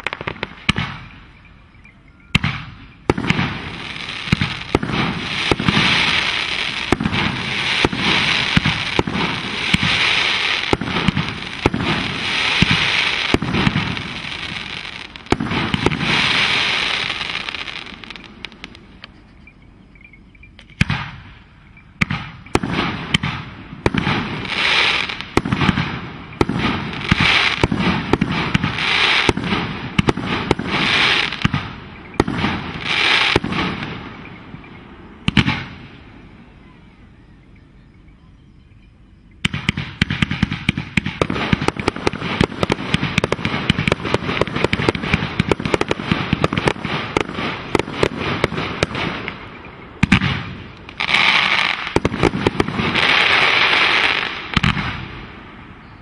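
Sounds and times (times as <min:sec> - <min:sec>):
fireworks bangs and crackling: 0:00.0 - 0:01.4, 0:02.3 - 0:19.1, 0:20.6 - 0:36.4, 0:39.4 - 0:56.0.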